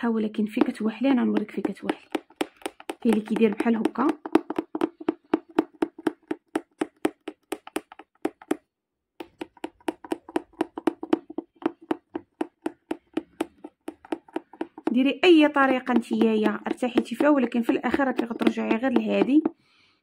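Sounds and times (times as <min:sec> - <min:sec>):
punch needle tapping through fabric: 0:00.4 - 0:19.6.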